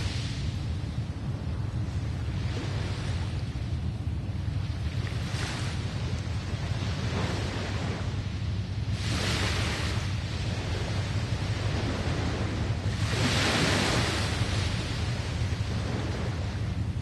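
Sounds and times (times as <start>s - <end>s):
low rumble of surf: 0.0s - 17.0s
waves breaking and washing in: 0.0s - 17.0s.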